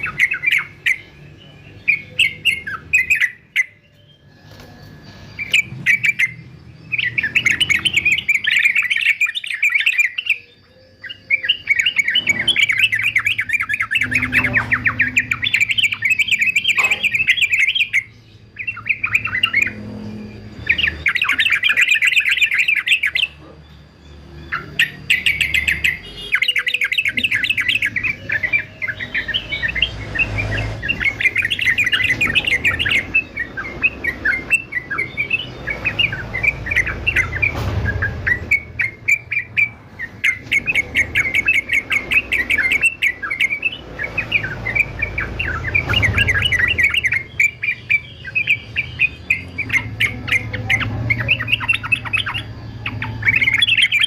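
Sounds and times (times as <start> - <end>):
bird chattering song: 0.0 - 54.0.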